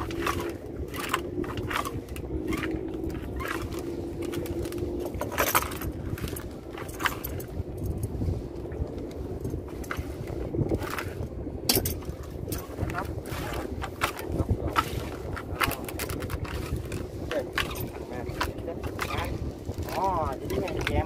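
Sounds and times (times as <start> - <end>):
fishing net gear clinking: 0.0 - 8.1, 10.7 - 21.0
low rumble: 0.0 - 21.0.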